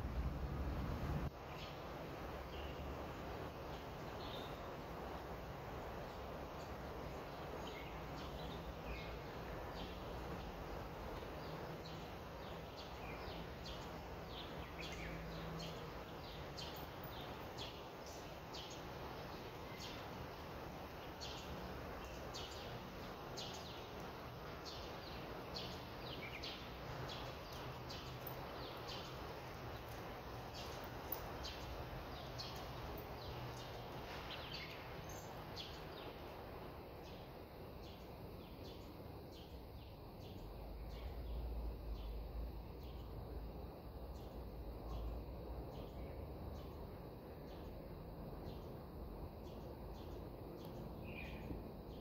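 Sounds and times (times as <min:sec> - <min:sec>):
steady background noise: 0:00.0 - 0:52.0
small birds chirping: 0:00.2 - 0:52.0.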